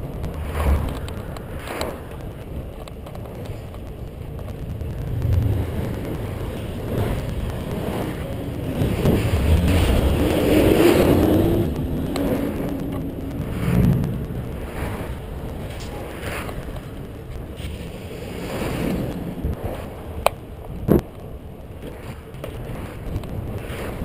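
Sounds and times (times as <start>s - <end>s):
motor vehicle passing: 0.0s - 2.7s, 3.8s - 20.6s
wind rumbling on microphone: 0.0s - 24.0s.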